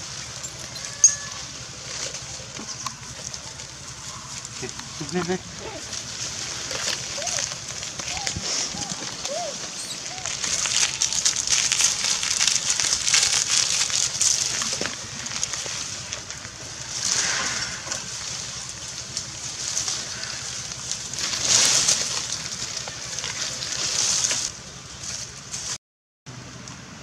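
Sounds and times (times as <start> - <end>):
dry leaves rustling and crackling: 0.0 - 27.0.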